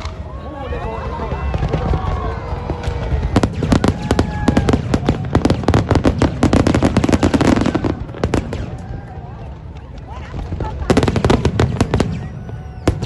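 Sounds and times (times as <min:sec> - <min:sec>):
fireworks crackling: 0:00.0 - 0:13.0
low rumble of firework bursts: 0:01.3 - 0:13.0.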